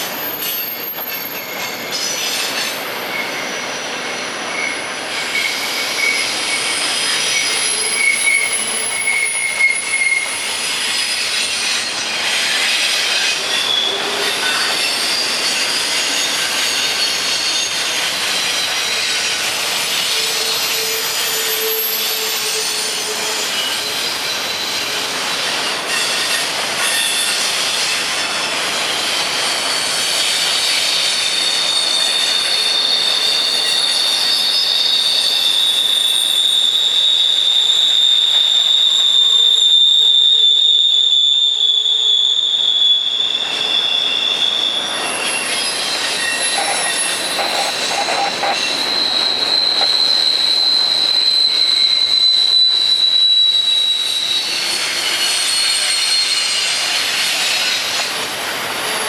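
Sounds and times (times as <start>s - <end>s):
freight train cars rolling: 0.0s - 59.0s
high-pitched wheel squeal: 0.0s - 59.0s.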